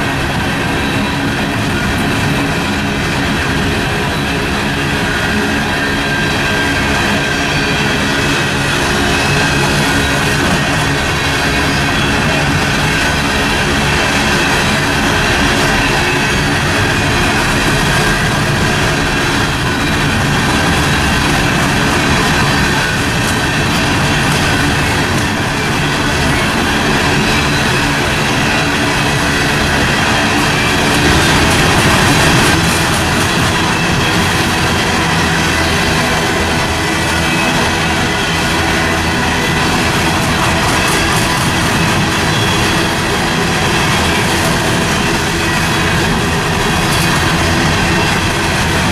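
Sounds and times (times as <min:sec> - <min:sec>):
high wheel squeal: 0:00.0 - 0:48.9
train wheels clattering over rails: 0:00.0 - 0:48.9.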